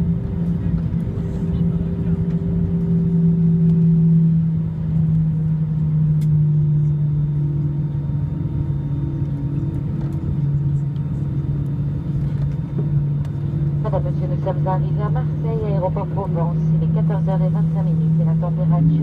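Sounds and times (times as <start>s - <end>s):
jet engine drone: 0.0s - 19.0s
rumble of aircraft wheels: 0.0s - 19.0s.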